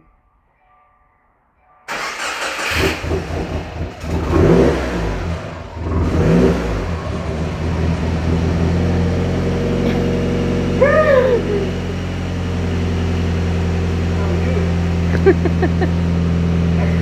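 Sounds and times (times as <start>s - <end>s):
car engine revving and idling: 1.9s - 17.0s.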